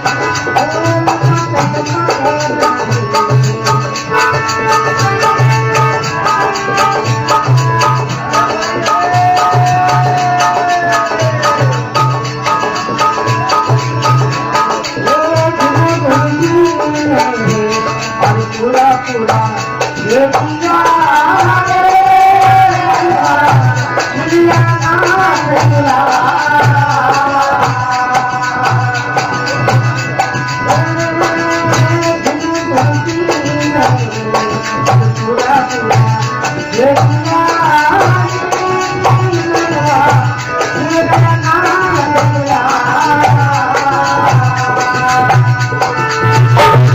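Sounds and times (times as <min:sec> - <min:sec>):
folk devotional music: 0:00.0 - 0:46.9
rattling percussion: 0:00.0 - 0:46.9
steady drum beat: 0:00.0 - 0:46.9.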